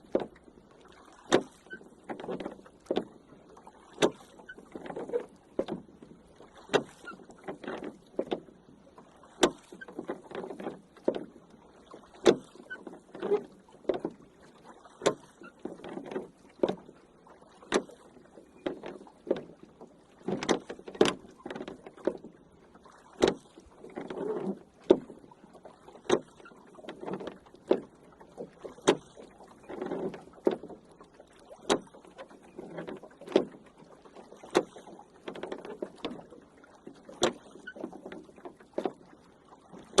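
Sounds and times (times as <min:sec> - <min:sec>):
water swishing: 0:00.0 - 0:40.0
oars knocking in oarlocks: 0:01.2 - 0:03.1, 0:03.9 - 0:08.6, 0:09.3 - 0:11.4, 0:12.1 - 0:14.2, 0:14.9 - 0:16.9, 0:17.7 - 0:22.4, 0:23.2 - 0:25.2, 0:26.0 - 0:33.7, 0:34.3 - 0:39.1.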